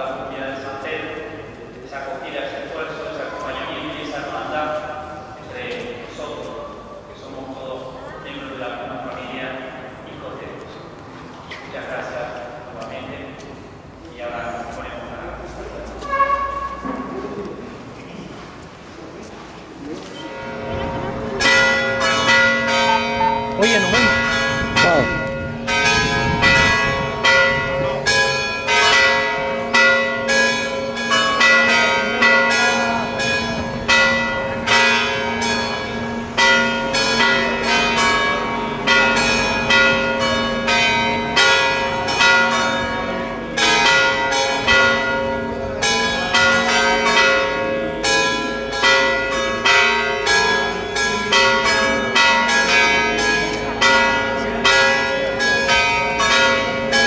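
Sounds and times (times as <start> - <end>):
church bells pealing: 0.0 - 9.9, 20.1 - 57.0.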